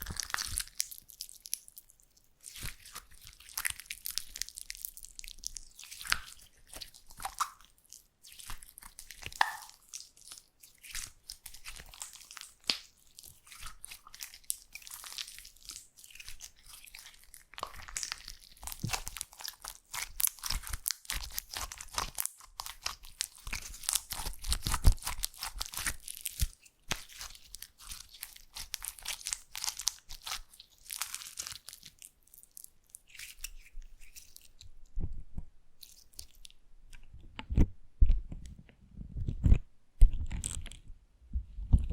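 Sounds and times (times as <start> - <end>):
slime crackling and popping: 0.0 - 34.7.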